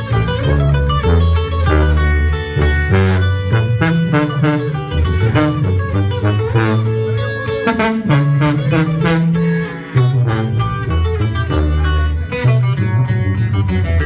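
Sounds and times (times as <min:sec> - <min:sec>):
fast plucked guitars: 0:00.0 - 0:14.0
tuba bass line: 0:00.0 - 0:14.0.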